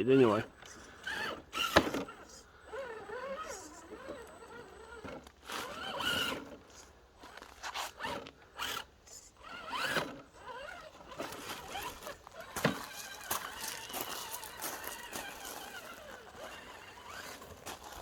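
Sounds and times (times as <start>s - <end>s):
toy car motor whine: 0.2s - 18.0s.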